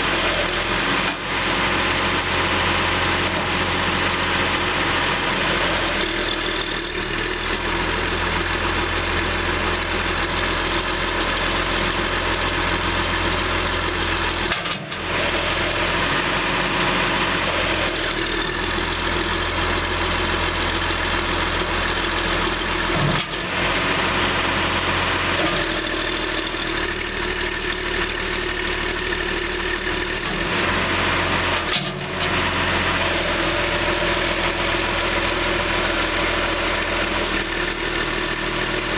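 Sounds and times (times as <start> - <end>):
backhoe diesel engine running: 0.0 - 38.9.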